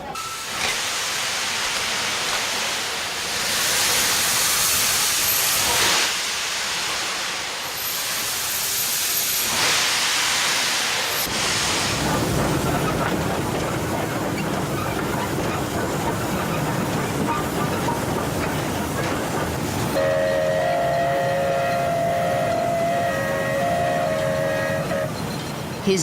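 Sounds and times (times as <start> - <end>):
steam locomotive hissing steam: 0.0 - 26.0.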